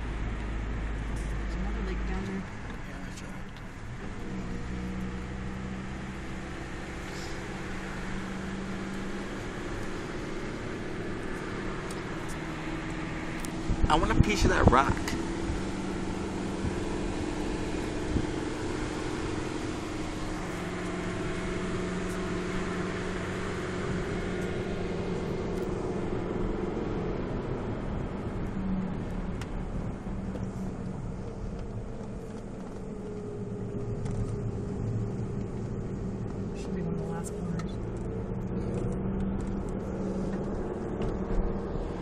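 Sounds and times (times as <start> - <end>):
car engine hum: 0.0 - 42.0
tyre and road noise: 0.0 - 42.0.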